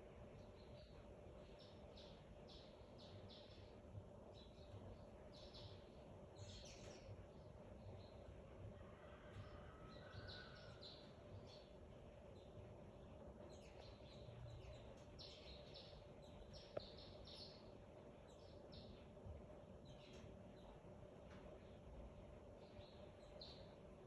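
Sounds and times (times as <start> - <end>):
birds chirping: 0.2 - 8.7, 9.3 - 24.0.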